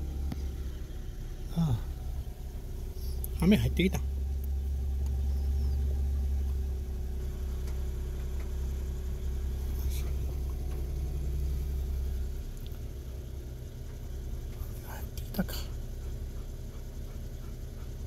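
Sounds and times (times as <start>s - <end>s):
car engine idling: 0.0s - 18.0s
faint hum: 0.0s - 18.0s.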